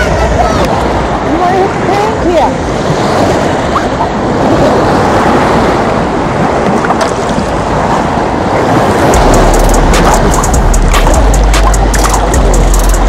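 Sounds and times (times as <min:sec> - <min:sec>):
seawater lapping over rocks: 0:00.0 - 0:13.0
wind rumbling on microphone: 0:00.0 - 0:13.0.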